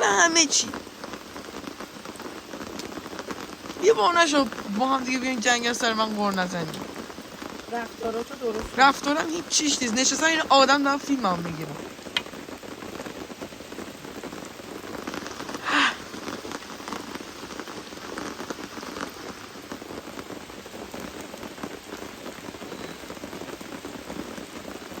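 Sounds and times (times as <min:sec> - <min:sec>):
raindrops ticking on surfaces: 0:00.0 - 0:25.0
steady rain falling: 0:00.0 - 0:25.0.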